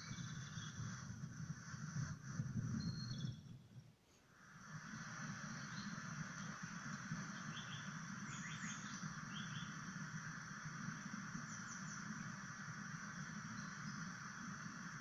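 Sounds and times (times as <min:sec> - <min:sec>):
songbird chirping: 0:00.0 - 0:01.0, 0:02.8 - 0:15.0
steady hiss and low hum: 0:00.0 - 0:15.0.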